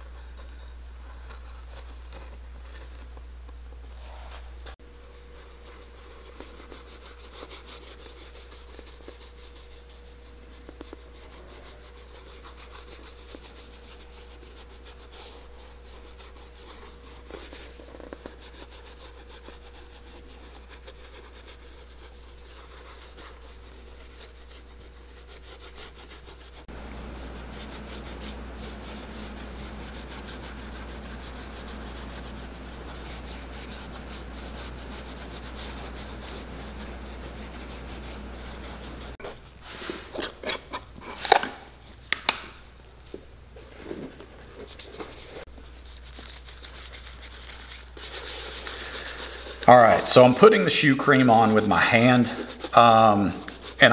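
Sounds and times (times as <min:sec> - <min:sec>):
background hum: 0:00.0 - 0:53.9
dauber rubbing on leather: 0:05.2 - 0:39.2, 0:43.8 - 0:53.9.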